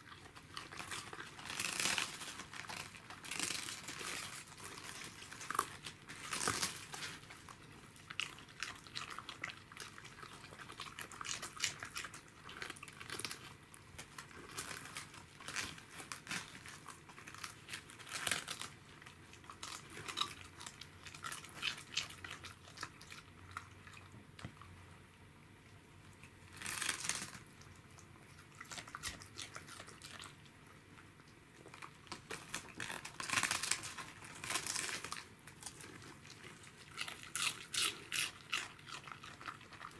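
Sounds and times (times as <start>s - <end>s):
dog crunching cabbage leaves: 0.0s - 24.7s, 26.1s - 39.9s.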